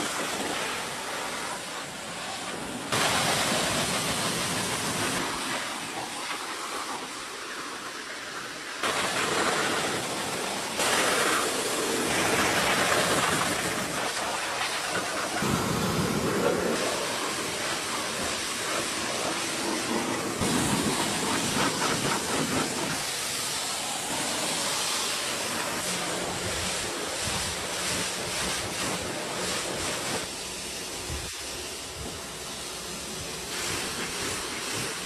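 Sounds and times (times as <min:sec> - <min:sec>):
pressure washer spraying water: 0:00.0 - 0:35.0.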